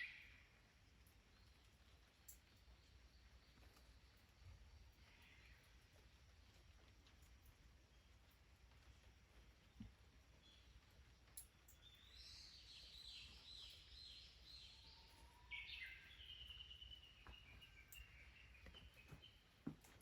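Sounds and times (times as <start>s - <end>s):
songbird singing: 0.0s - 5.9s, 9.6s - 20.0s.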